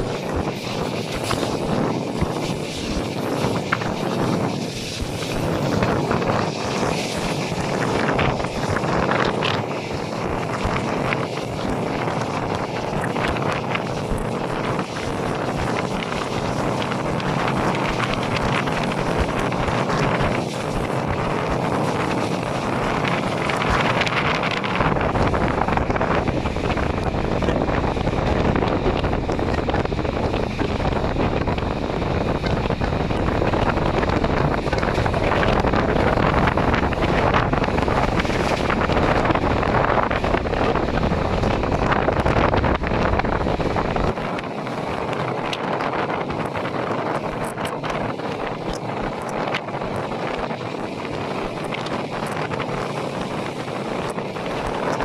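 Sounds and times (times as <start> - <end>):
deep rumble: 0.0 - 55.0
train running on rails: 0.0 - 55.0
wind rushing over microphone: 0.0 - 55.0.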